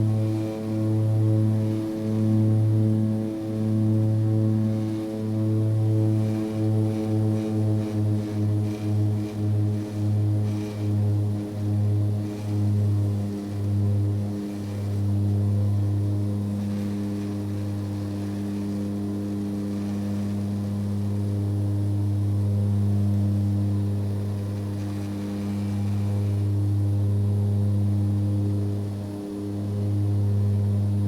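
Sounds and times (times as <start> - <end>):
aircraft engine droning: 0.0 - 31.0.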